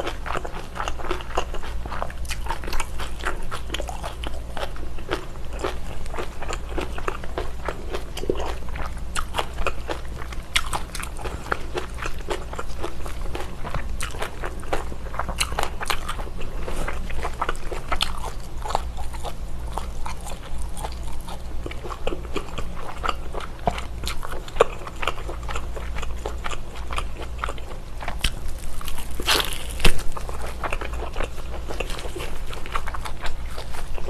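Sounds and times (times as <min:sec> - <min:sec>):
biting and chewing crunchy food: 0:00.0 - 0:34.0.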